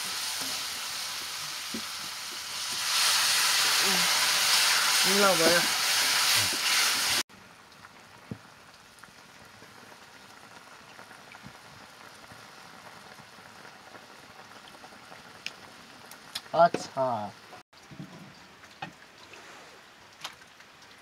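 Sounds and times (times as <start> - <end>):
food frying with loud hiss: 0.0 - 17.6
curry simmering with pops: 0.0 - 19.3.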